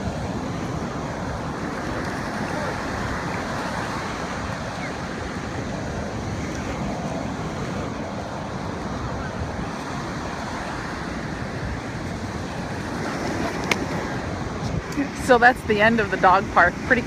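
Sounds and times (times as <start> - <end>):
ocean waves washing on sand: 0.0 - 17.0
wind rumbling on microphone: 0.0 - 17.0.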